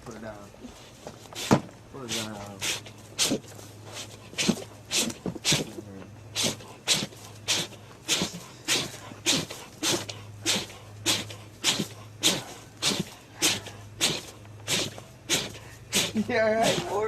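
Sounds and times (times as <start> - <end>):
pet animal sneezing: 1.4 - 17.0.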